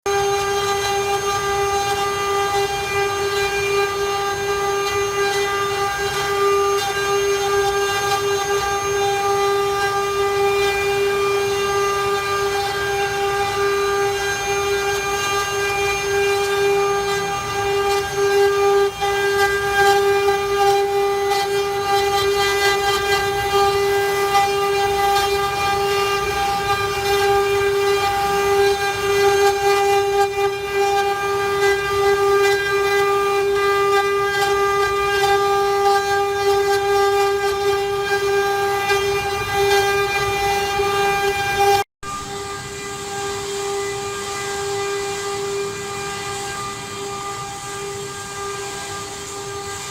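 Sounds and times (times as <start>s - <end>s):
router spindle whining: 0.0s - 49.9s.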